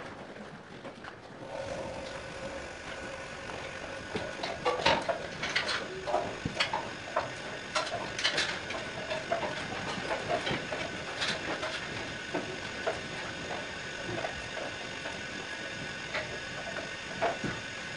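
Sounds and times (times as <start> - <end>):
milking machine hum: 1.1 - 17.9.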